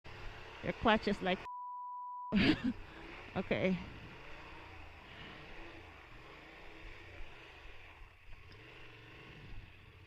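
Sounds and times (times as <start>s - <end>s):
faint motorcycle engine hum: 0.1s - 1.5s, 2.4s - 10.0s.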